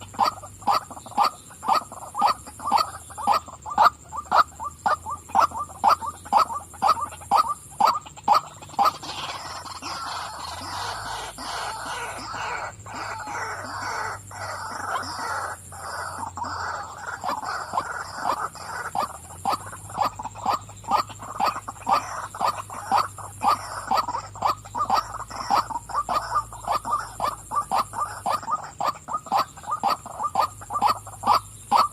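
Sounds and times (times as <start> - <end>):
waterhen harsh croaking calls: 0.0 - 31.9.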